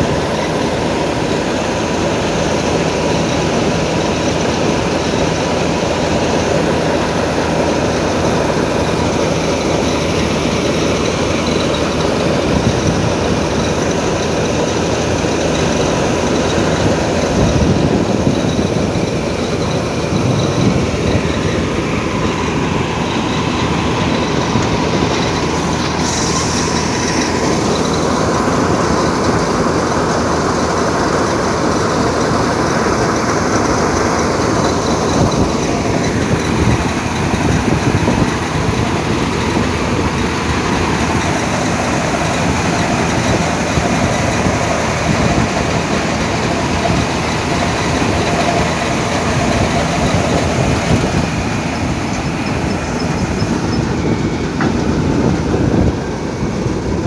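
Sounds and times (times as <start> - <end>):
combine harvester machinery din: 0.0 - 57.0.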